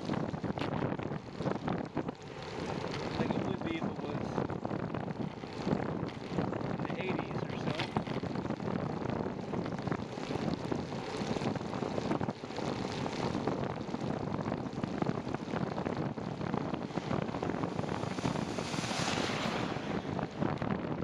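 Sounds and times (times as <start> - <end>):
tyres on wet pavement: 0.0 - 21.0
wind buffeting microphone: 0.0 - 21.0.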